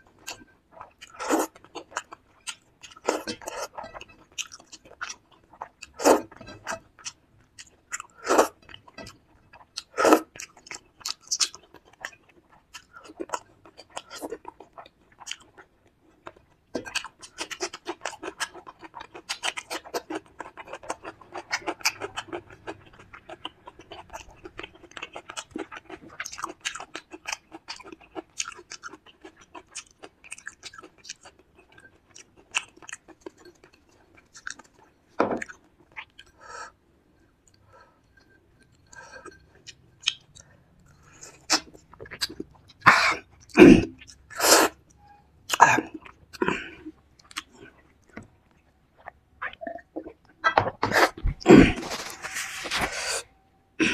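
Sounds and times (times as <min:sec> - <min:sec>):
wet chewing and mouth smacking: 0:00.2 - 0:36.4, 0:37.5 - 0:52.0.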